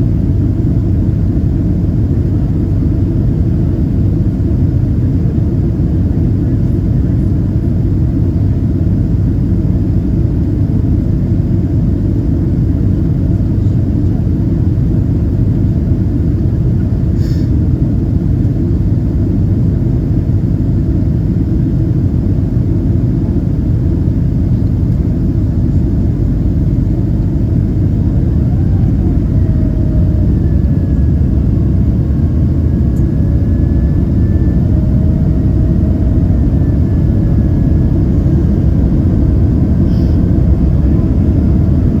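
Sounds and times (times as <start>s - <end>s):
jet engines and airflow rumble: 0.0s - 42.0s.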